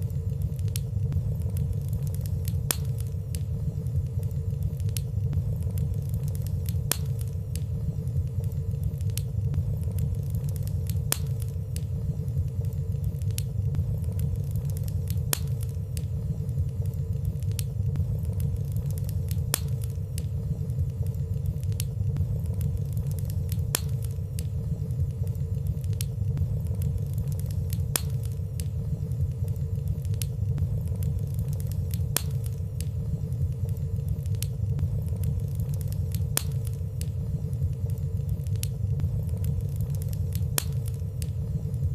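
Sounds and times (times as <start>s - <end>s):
fire crackling in fireplace: 0.0s - 41.9s.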